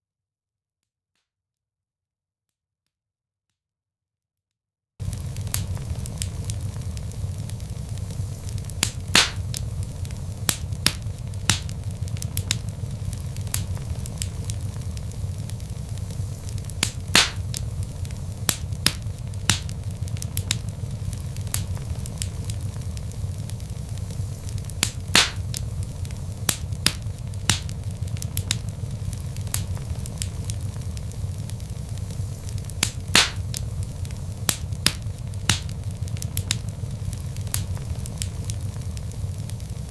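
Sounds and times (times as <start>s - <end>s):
fire crackling: 5.0s - 39.9s
fire flames rumbling: 5.0s - 39.9s
fire popping: 5.0s - 39.9s.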